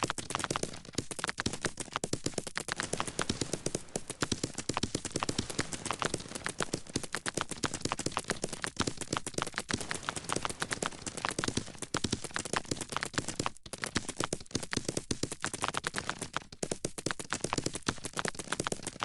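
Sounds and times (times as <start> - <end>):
rapid clicking and tapping: 0.0 - 19.0.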